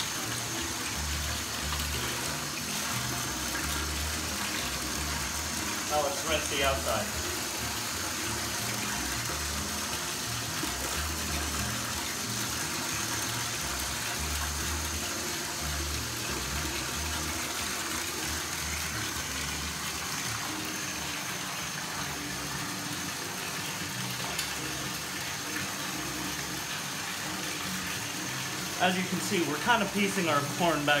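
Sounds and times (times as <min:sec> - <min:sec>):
water running from faucet: 0:00.0 - 0:31.0.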